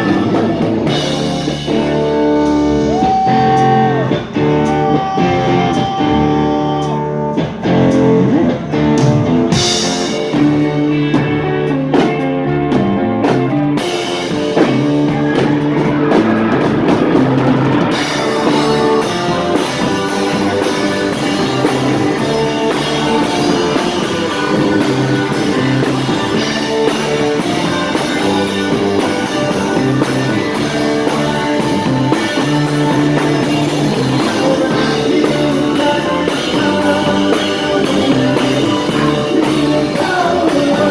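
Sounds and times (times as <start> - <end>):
drum kit with cymbals: 0.0 - 40.9
electric guitar playing: 0.0 - 40.9.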